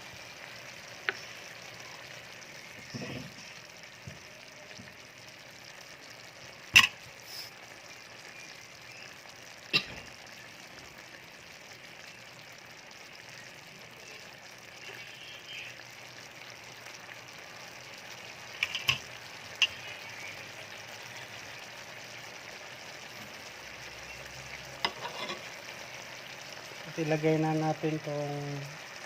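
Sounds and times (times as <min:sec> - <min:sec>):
stew simmering and bubbling: 0:00.0 - 0:29.0.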